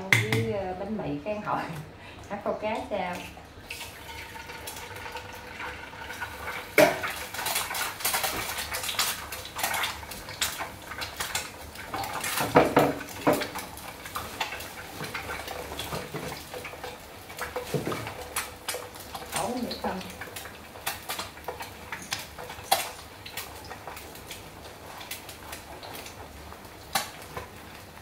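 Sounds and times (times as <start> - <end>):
egg frying in oil: 0.1 - 28.0.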